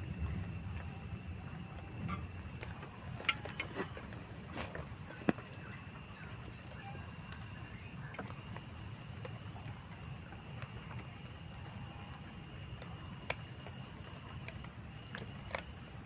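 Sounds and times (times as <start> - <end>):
insects droning high-pitched: 0.0 - 16.0.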